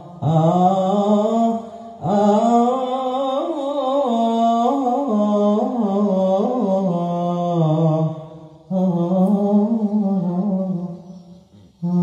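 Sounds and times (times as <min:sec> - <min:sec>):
man chanting through a microphone: 0:00.0 - 0:12.0.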